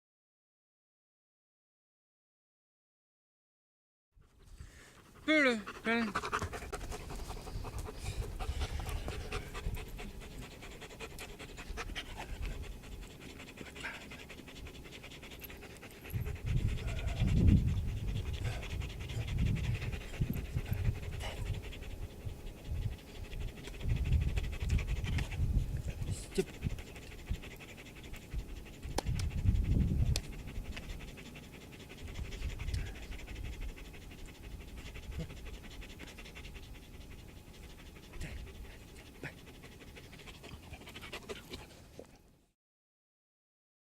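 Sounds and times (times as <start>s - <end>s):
dog panting: 4.2s - 42.2s.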